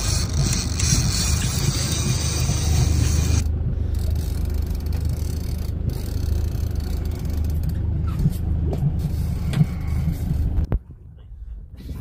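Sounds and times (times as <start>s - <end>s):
boat engine droning: 0.0s - 10.7s.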